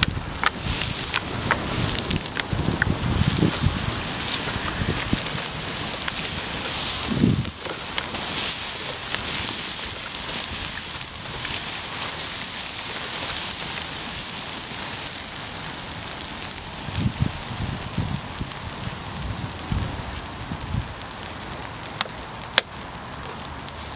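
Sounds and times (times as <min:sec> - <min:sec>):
water hissing on embers: 0:00.0 - 0:23.9.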